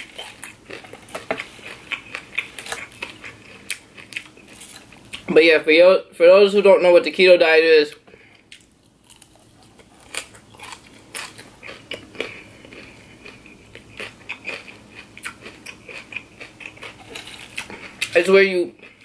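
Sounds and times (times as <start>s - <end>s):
chewing crunchy raw salad: 0.0s - 5.3s, 7.9s - 19.0s.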